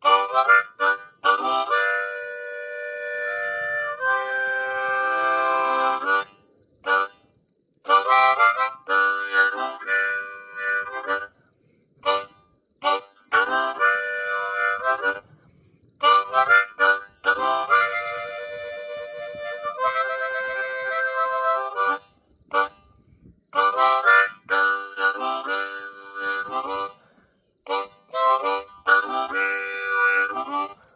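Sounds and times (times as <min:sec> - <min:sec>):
blues harmonica: 0:00.0 - 0:07.2, 0:07.8 - 0:11.4, 0:12.0 - 0:15.4, 0:16.0 - 0:22.8, 0:23.5 - 0:30.9.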